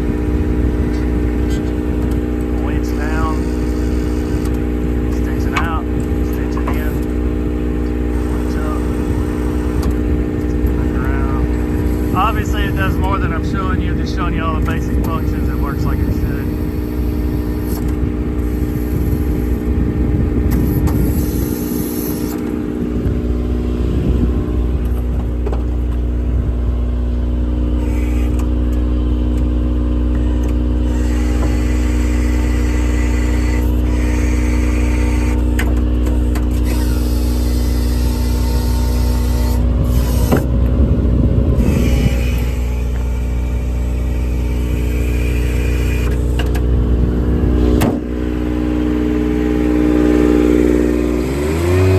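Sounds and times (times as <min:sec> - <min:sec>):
vehicle engine idling: 0:00.0 - 0:51.9.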